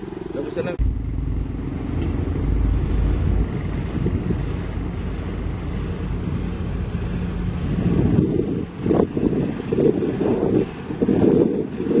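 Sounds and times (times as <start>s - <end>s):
diesel engine running: 0.0s - 11.2s
wind on microphone: 0.8s - 12.0s.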